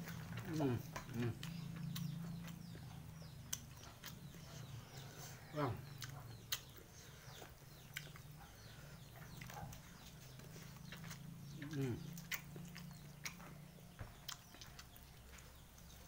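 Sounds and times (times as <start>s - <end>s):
faint bird chirps: 0.0s - 16.0s
mouth smacks and chewing: 0.0s - 16.0s.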